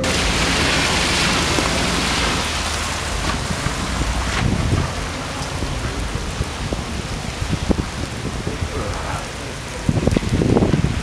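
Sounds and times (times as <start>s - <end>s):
heavy rain pouring: 0.0s - 11.0s
low thunder rumble: 0.0s - 11.0s.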